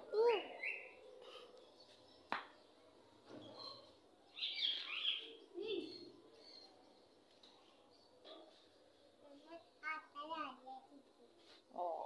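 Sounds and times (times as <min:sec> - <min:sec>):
faint bird chirping: 0:00.2 - 0:12.0.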